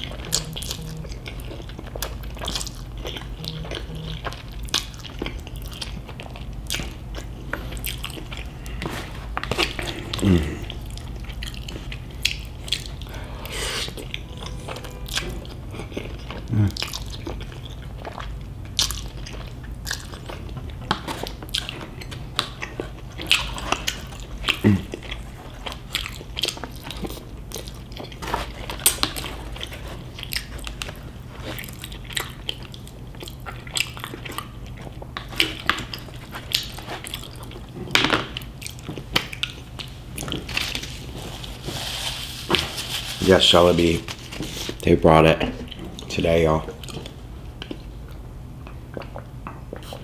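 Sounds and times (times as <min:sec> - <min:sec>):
person chewing food: 0:00.0 - 0:43.1, 0:45.6 - 0:50.0
steady low hum: 0:00.0 - 0:50.0.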